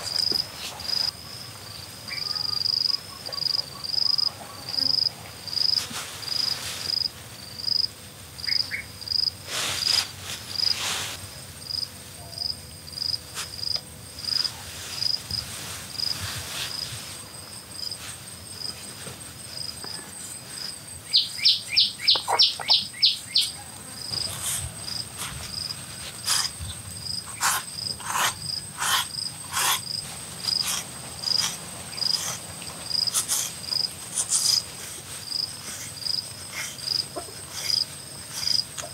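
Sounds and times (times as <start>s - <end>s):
crickets chirping: 0.0s - 38.9s
high insect drone: 0.0s - 38.9s.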